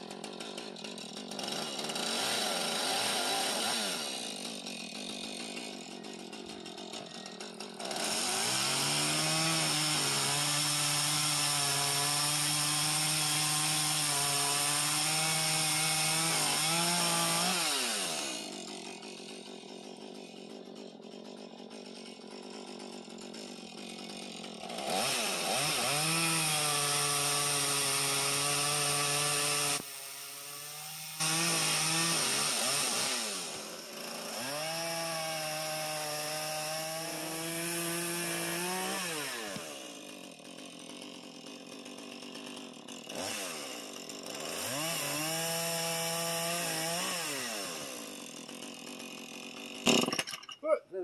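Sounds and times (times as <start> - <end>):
chainsaw cutting wood: 0.0 - 51.0.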